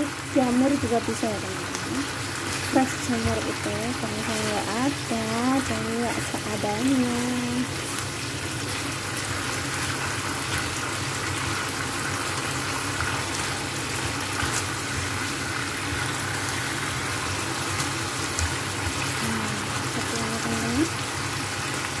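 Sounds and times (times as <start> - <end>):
sauce bubbling and sizzling: 0.0 - 22.0.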